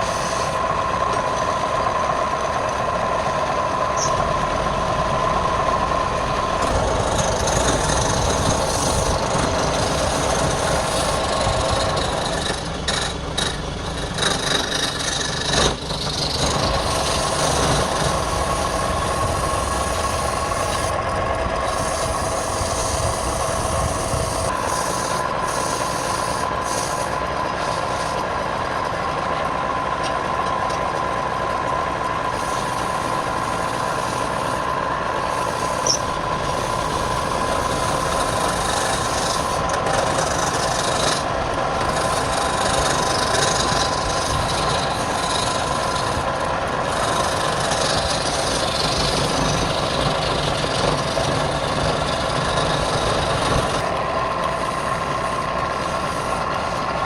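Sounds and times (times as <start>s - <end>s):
tool scraping spinning wood: 0.0s - 57.0s
wood lathe motor whine: 0.0s - 57.0s.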